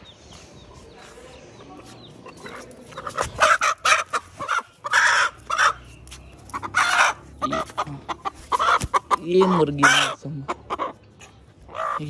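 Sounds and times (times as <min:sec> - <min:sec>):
chickens squawking and clucking: 0:00.5 - 0:12.0.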